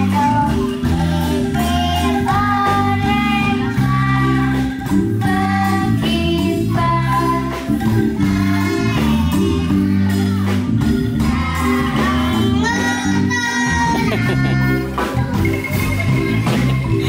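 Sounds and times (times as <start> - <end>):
instrumental accompaniment with bass: 0.0 - 17.0
young children singing: 0.0 - 17.0.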